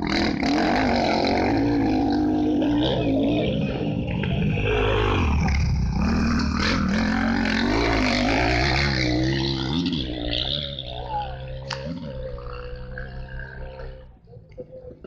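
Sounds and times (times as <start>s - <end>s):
motorbike engine revving: 0.0s - 14.3s.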